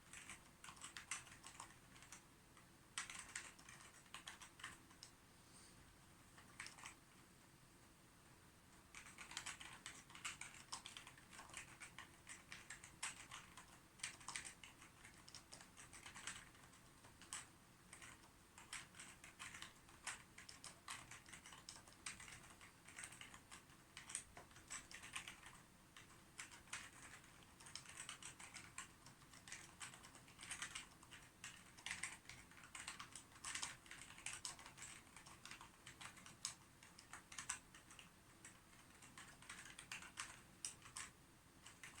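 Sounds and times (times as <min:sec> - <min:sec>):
computer keyboard typing: 0:00.0 - 0:05.2, 0:06.4 - 0:07.0, 0:08.8 - 0:42.0.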